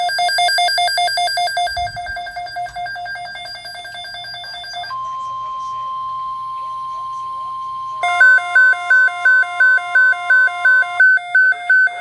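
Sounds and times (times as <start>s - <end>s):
rapid electronic beeping: 0.0s - 5.9s, 6.9s - 12.0s
steady high alert tone: 0.0s - 12.0s.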